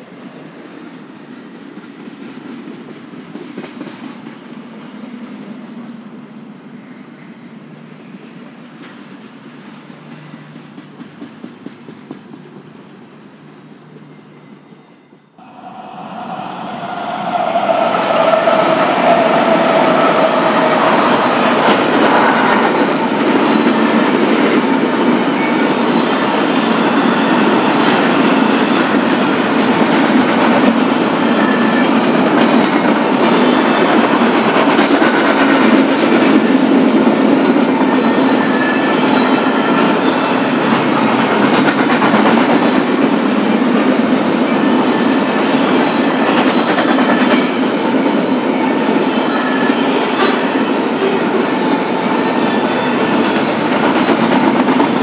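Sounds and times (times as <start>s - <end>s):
train wheels clattering on rails: 0.0s - 6.0s, 6.9s - 15.0s, 15.6s - 55.0s
freight train rolling past: 0.0s - 55.0s.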